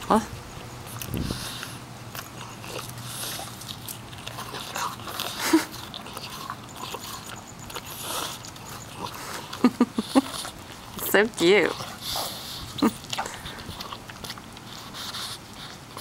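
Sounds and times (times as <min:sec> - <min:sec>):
dog chewing an apple: 0:00.0 - 0:16.0.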